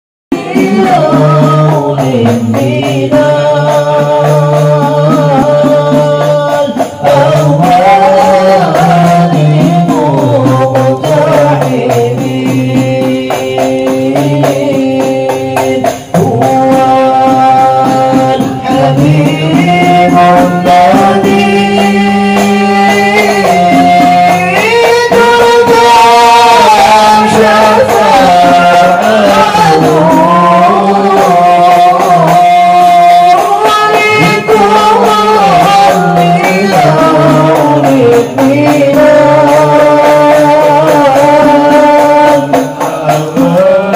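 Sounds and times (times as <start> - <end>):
men chanting in unison: 0.3 - 43.9.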